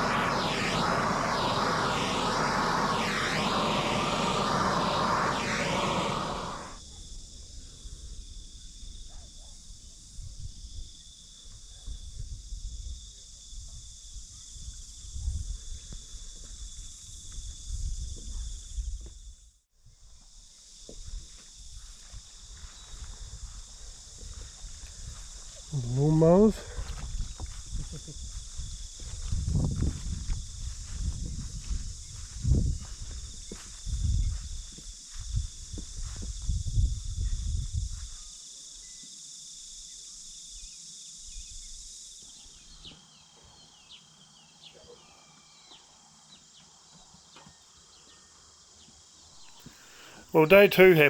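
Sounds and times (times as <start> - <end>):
high-pitched insect chorus: 0.0 - 50.3.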